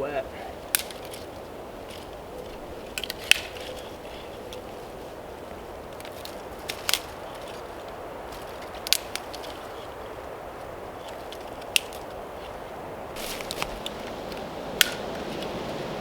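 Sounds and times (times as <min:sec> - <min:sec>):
wind hiss: 0:00.0 - 0:16.0
twigs snapping: 0:00.5 - 0:15.6.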